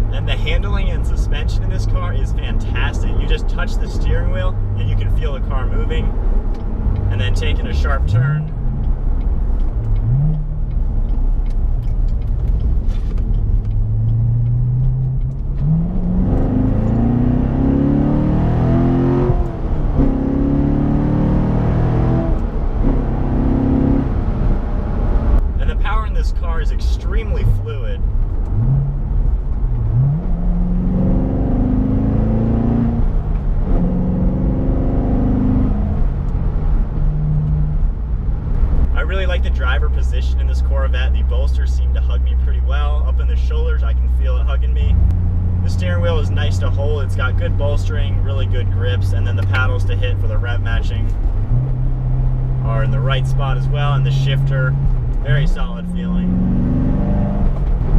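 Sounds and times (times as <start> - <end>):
car engine accelerating: 0.0 - 57.9
road noise: 0.0 - 57.9.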